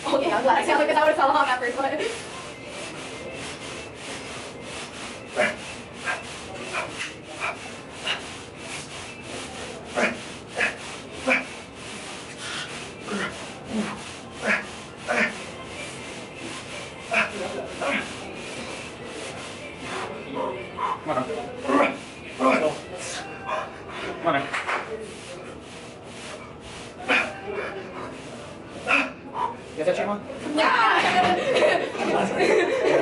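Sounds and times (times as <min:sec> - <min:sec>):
leg press machine rasping strokes: 0:00.0 - 0:33.0.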